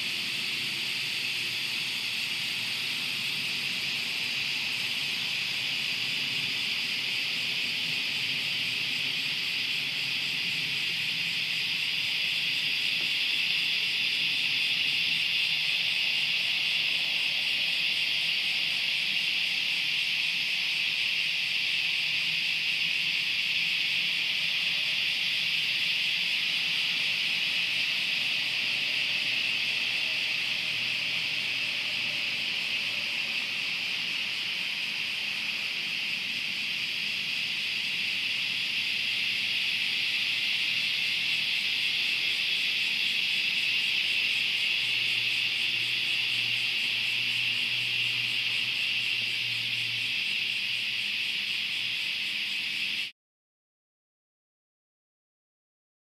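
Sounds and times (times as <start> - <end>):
cicadas buzzing: 0.0 - 53.1.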